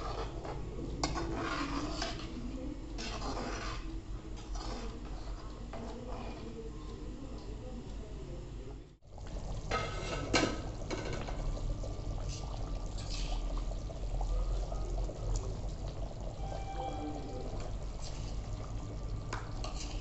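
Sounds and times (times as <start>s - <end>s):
thick gravy bubbling: 0.0s - 7.5s, 9.0s - 20.0s.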